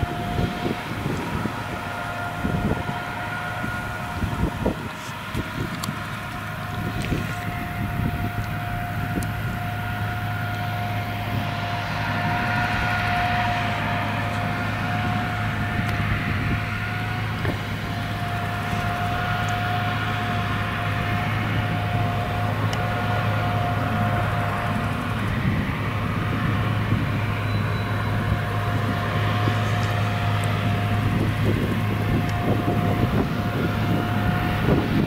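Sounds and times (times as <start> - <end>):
forage harvester engine drone: 0.0 - 35.0
high machine whine: 0.0 - 35.0.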